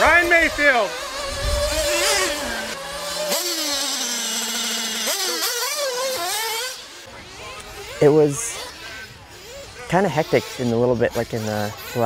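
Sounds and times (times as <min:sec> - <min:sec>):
rc car engines whining: 0:00.0 - 0:12.0.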